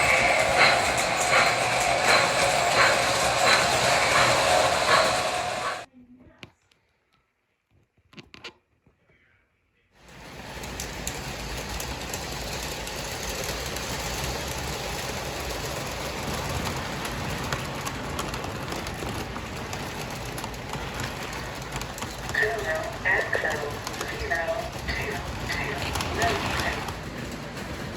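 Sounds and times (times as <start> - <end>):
toy train motor hum: 0.0 - 5.9, 10.0 - 27.9
wheels clicking over rails: 0.0 - 5.9, 10.0 - 27.9.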